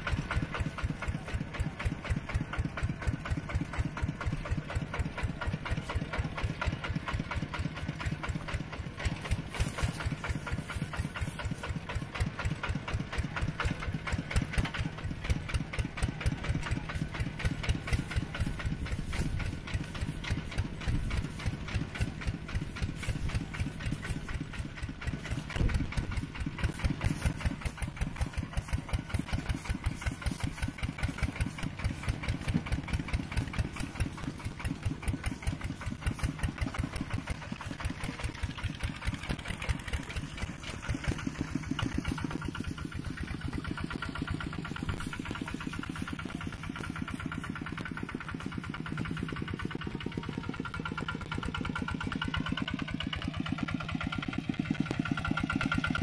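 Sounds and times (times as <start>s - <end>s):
mini tractor engine running: 0.0s - 56.0s.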